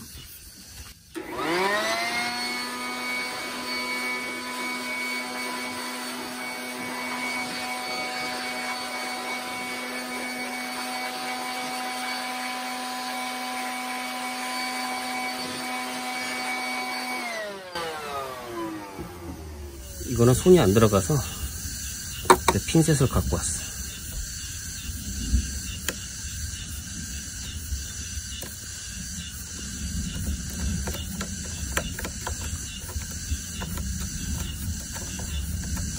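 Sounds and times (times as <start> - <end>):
electric blower whine: 0.0 - 35.9.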